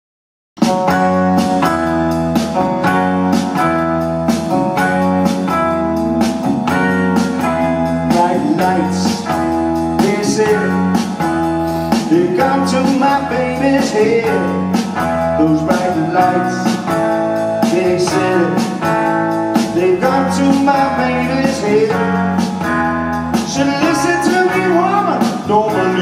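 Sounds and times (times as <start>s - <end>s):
blues-rock band playing: 0.6s - 26.0s.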